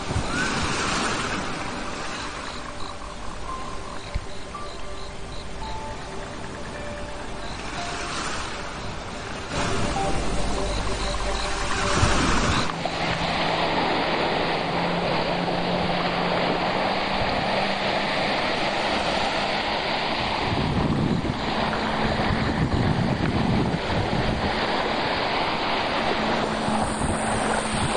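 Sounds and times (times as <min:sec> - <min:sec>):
small waves washing ashore: 0:00.0 - 0:27.9
wind buffeting microphone: 0:00.0 - 0:27.9.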